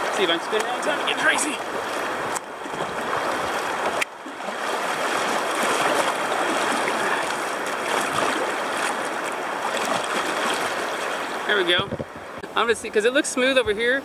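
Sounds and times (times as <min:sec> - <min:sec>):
river rapids rushing and splashing: 0:00.0 - 0:13.4.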